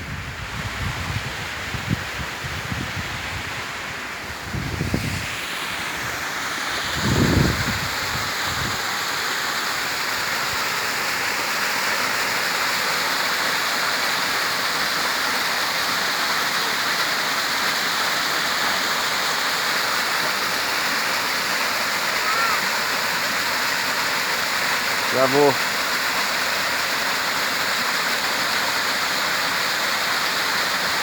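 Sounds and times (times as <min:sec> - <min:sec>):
waterfall rushing: 0:03.1 - 0:31.0.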